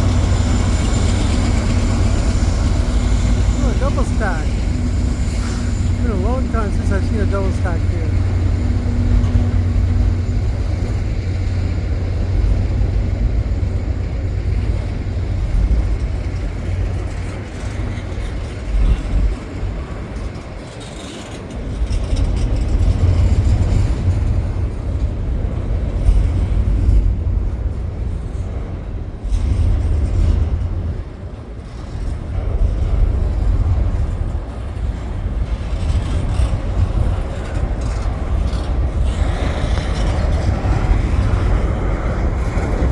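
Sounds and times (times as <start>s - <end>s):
freight train rumbling past: 0.0s - 42.9s.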